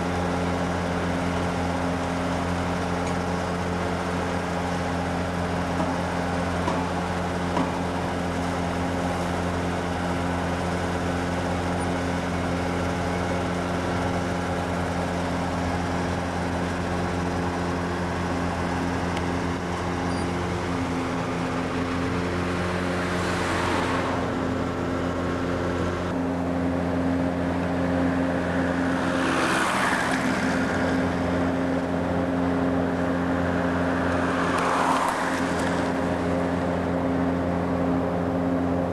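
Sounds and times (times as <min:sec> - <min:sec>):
construction machinery droning: 0:00.0 - 0:38.9.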